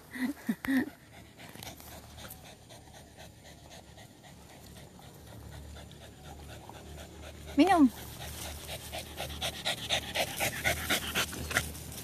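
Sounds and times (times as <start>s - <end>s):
dog panting: 0.7s - 12.0s.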